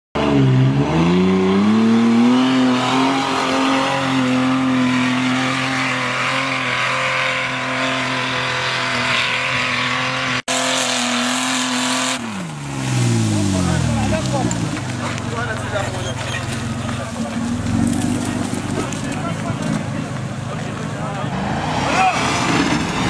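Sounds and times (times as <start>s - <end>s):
car engine revving hard: 0.2s - 20.1s, 21.1s - 23.0s.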